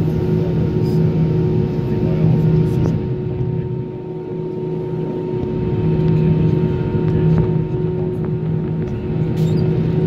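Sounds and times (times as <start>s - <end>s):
jet engine low hum: 0.0s - 10.0s
thin steady whine: 0.0s - 10.0s.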